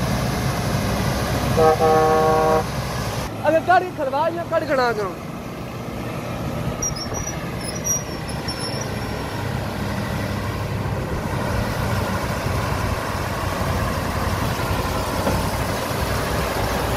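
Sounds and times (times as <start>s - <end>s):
truck diesel engine passing: 0.0s - 16.9s.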